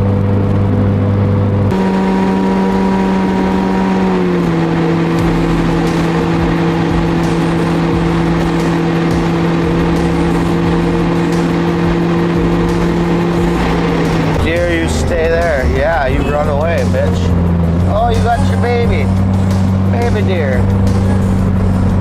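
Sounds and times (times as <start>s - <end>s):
road and engine noise in cabin: 0.0s - 22.0s.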